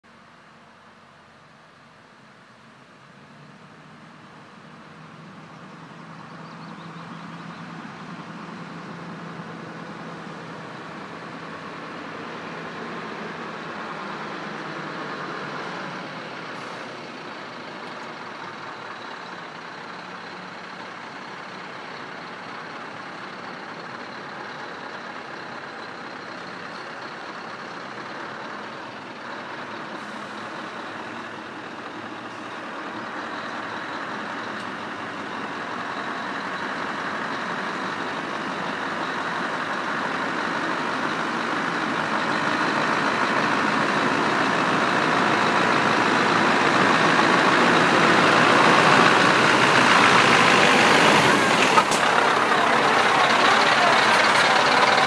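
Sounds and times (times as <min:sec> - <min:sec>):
road noise: 0:00.0 - 0:55.0
diesel truck engine running: 0:03.2 - 0:55.0.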